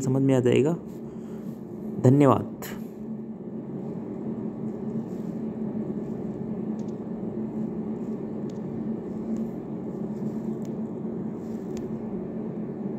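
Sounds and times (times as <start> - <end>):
low background hum: 0.0 - 12.9.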